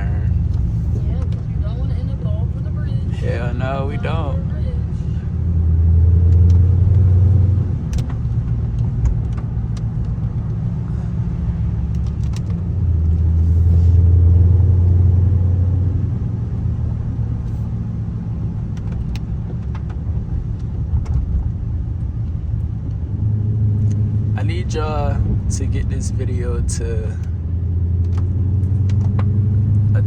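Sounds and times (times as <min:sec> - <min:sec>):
car engine droning inside cabin: 0:00.0 - 0:30.0
road noise: 0:00.0 - 0:30.0.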